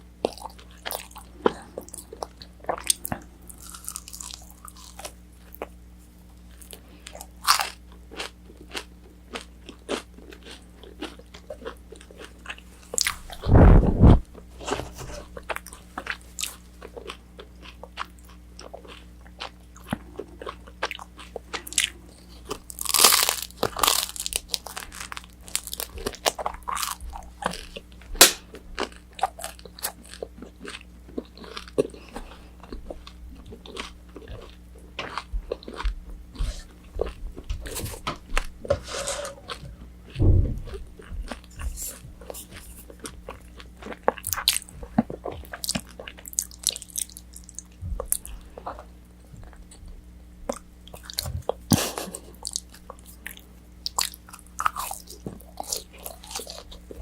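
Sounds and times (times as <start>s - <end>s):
crunchy bites and chewing: 0.2s - 57.0s.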